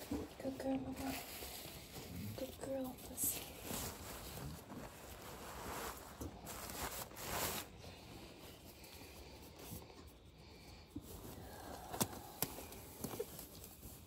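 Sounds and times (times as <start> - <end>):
absorbent pad rustling and crinkling: 0.0 - 14.0.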